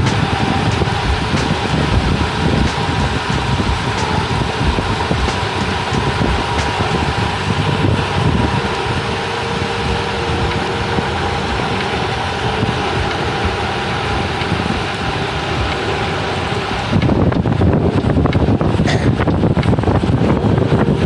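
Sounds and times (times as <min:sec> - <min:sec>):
faint steady hum: 0:00.0 - 0:21.0
low rumble: 0:00.0 - 0:21.0
wind buffeting microphone: 0:00.0 - 0:21.0.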